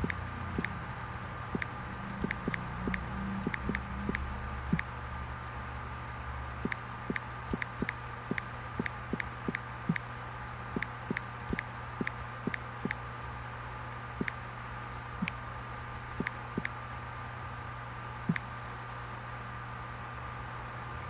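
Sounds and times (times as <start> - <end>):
electric air pump humming: 0.0 - 21.0.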